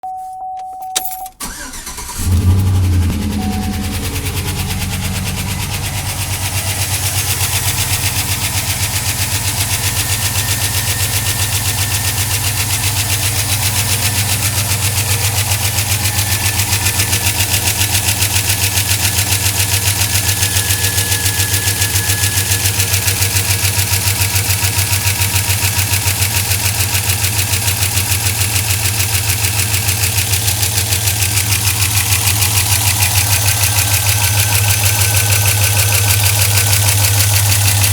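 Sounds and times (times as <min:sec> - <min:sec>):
engine idling: 0:01.4 - 0:37.9
rapid engine ticking: 0:01.4 - 0:37.9.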